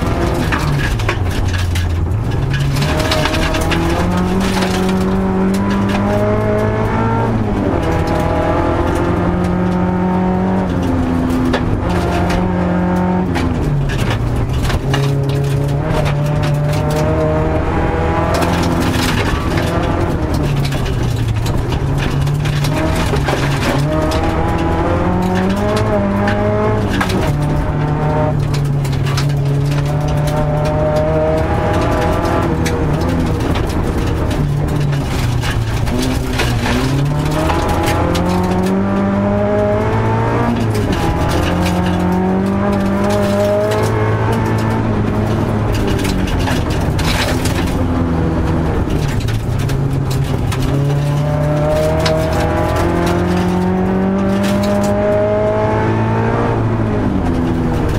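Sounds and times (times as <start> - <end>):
gravel striking car: 0.0 - 57.9
rally car engine revving: 0.0 - 57.9
road and tyre noise: 0.0 - 57.9.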